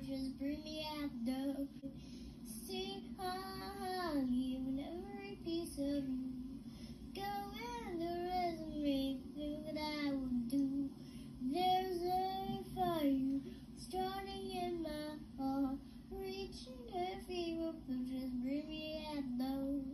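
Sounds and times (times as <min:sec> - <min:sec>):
girl singing unaccompanied: 0:00.0 - 0:19.9.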